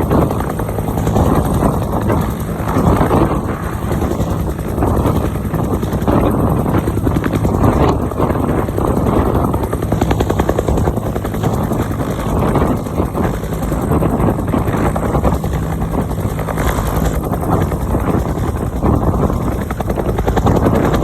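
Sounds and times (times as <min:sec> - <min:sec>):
helicopter engine hum: 0:00.0 - 0:21.0
helicopter rotor beating: 0:00.0 - 0:21.0.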